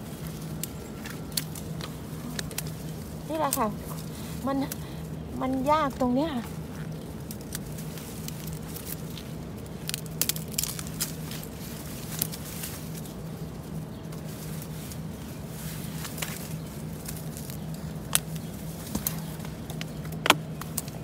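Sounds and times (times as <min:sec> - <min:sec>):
bamboo and twigs crackling and snapping: 0:00.0 - 0:21.0
low steady hum: 0:00.0 - 0:21.0.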